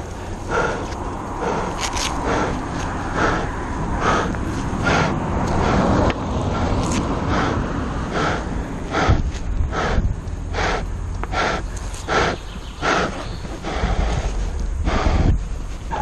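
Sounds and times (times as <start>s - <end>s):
person panting hard: 0.0s - 16.0s
steady low rumble: 0.0s - 16.0s.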